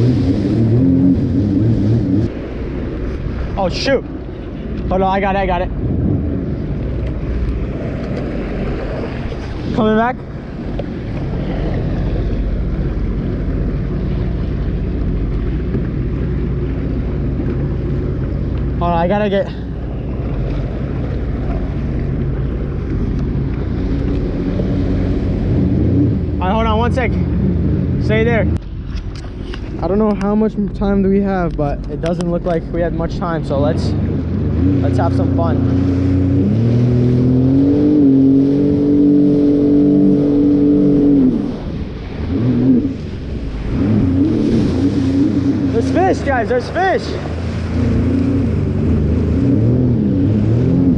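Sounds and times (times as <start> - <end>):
jet ski engine running: 0.0 - 50.9.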